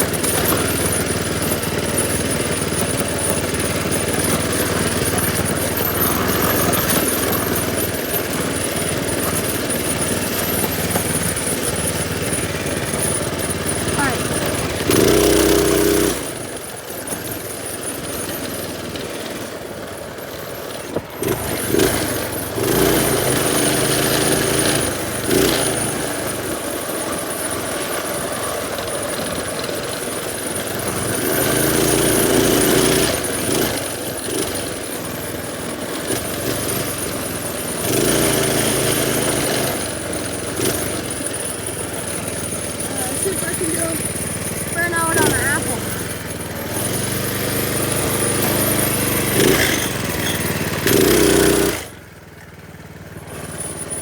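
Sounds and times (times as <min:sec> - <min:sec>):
minibike engine revving: 0:00.0 - 0:54.0.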